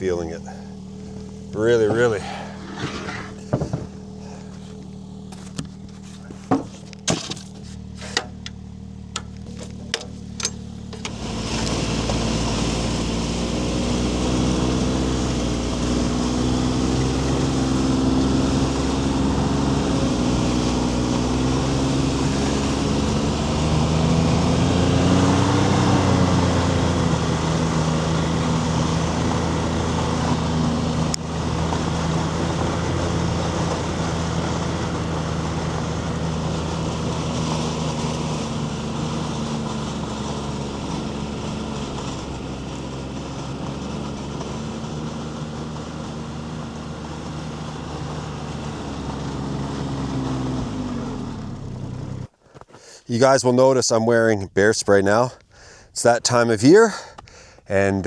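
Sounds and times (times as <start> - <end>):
snowmobile engine running: 0.0 - 52.3.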